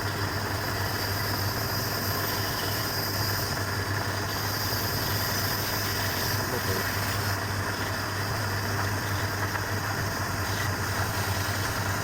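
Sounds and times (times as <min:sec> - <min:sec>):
wood lathe humming: 0:00.1 - 0:09.2, 0:09.8 - 0:12.0.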